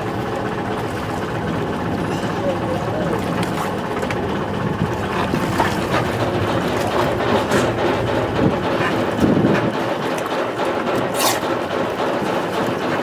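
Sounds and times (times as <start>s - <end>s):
boat engine noise: 0.0s - 13.0s
water sloshing: 0.0s - 13.0s.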